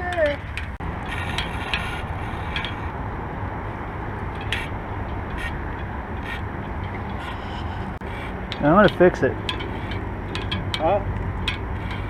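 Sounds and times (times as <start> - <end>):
wind and bike riding noise: 0.0 - 12.0
bike wheel scraping: 0.2 - 3.0, 4.2 - 12.0.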